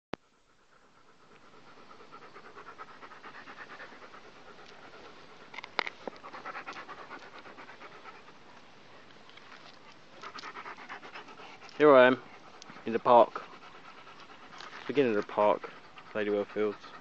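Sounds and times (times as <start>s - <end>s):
dog panting: 0.2s - 17.0s.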